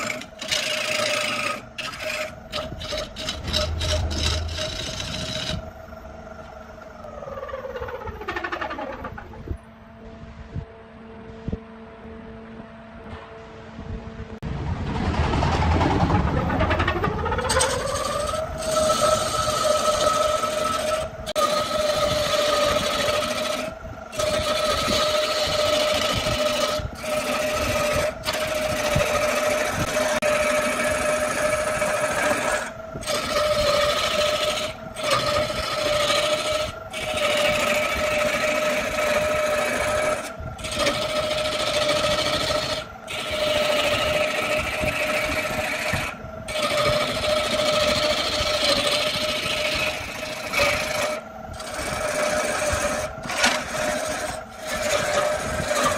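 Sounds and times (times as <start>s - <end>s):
hand tool scraping spinning wood: 0.0s - 5.7s, 16.1s - 55.9s
wood lathe motor whine: 0.0s - 12.9s, 16.2s - 55.9s.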